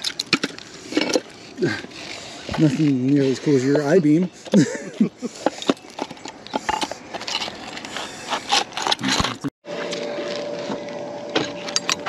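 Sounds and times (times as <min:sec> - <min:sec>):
steady hum: 0:00.4 - 0:12.0.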